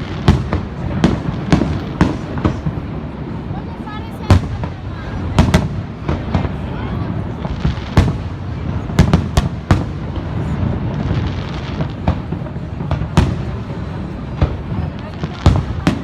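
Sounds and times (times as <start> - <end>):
fireworks bangs: 0.0 - 16.0
low background noise: 0.0 - 16.0.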